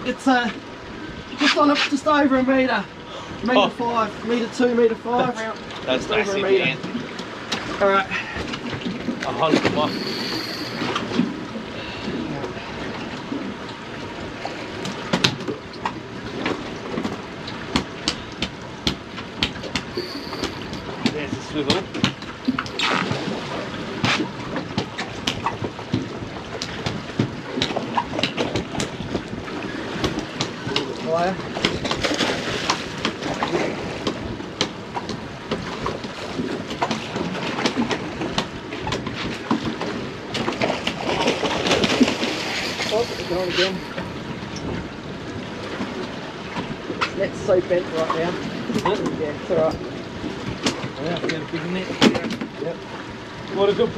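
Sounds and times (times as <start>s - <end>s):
wind: 0.0s - 53.9s
water washing against boat hull: 3.5s - 53.9s.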